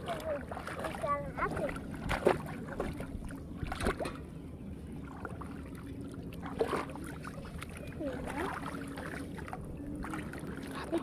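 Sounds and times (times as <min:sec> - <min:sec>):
muddy water splashing: 0:00.0 - 0:04.3, 0:05.0 - 0:11.0
steady low hum: 0:00.0 - 0:11.0.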